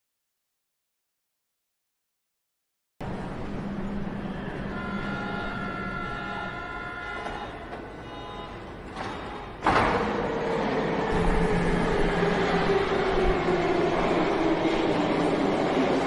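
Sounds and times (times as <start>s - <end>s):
subway train rumbling: 3.0s - 16.0s.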